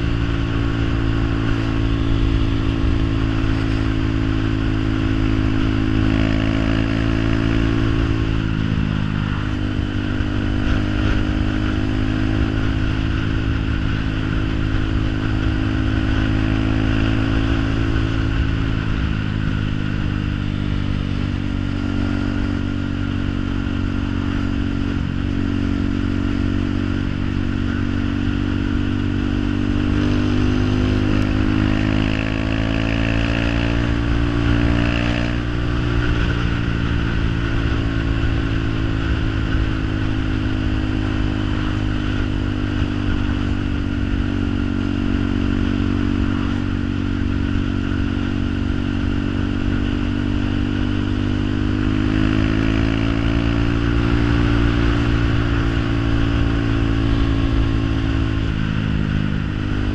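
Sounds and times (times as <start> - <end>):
engine running with low drone: 0.0 - 59.9.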